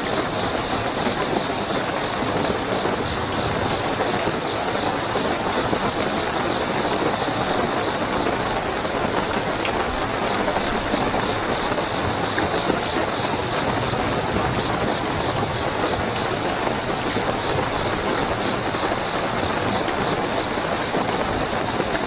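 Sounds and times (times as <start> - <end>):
crickets chirping: 0.0 - 22.0
heavy rainfall: 0.0 - 22.0.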